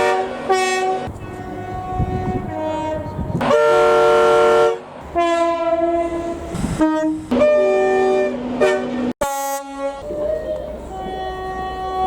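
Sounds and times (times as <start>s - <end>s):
train horn playing a tune: 0.0s - 12.0s.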